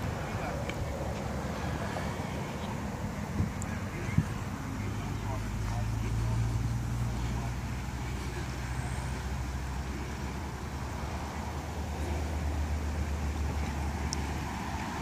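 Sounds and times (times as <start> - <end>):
dull traffic noise: 0.0 - 15.0
low hum of traffic: 0.0 - 15.0.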